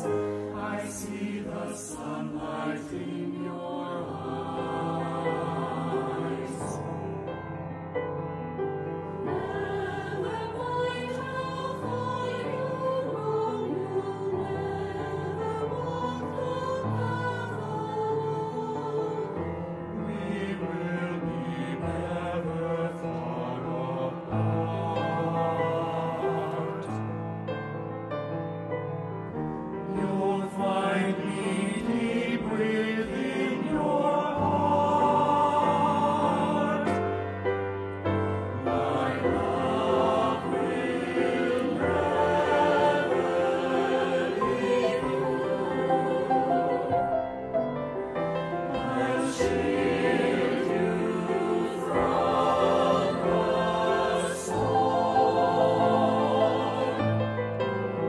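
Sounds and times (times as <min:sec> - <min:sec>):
men's choir singing: 0:00.0 - 0:07.6, 0:09.0 - 0:27.1, 0:29.9 - 0:47.6, 0:48.6 - 0:58.0.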